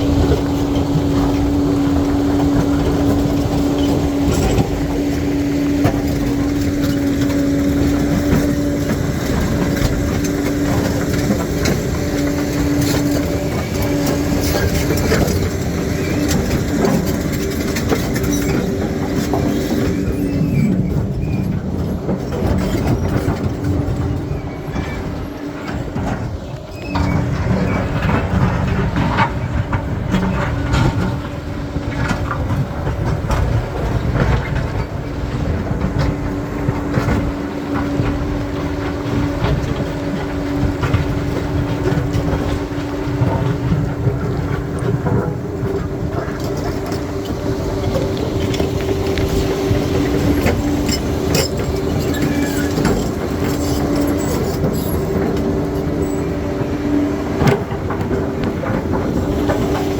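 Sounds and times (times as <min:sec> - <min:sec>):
bulldozer diesel engine droning: 0:00.0 - 0:59.9
steel tracks clanking: 0:00.0 - 0:59.9.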